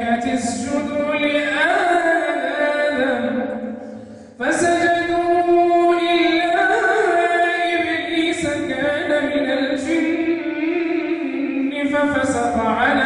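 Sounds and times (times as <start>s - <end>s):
person reciting melodically: 0.0s - 13.0s.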